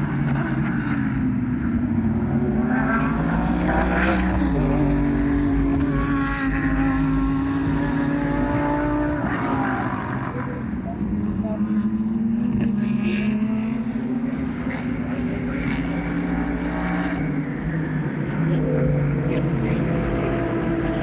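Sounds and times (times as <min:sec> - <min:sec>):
race car engine running: 0:00.0 - 0:21.0.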